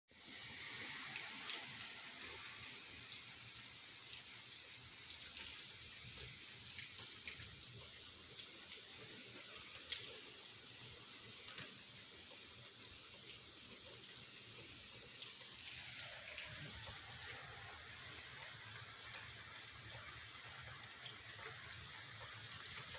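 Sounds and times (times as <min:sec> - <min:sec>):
steady rain: 0:00.1 - 0:22.9.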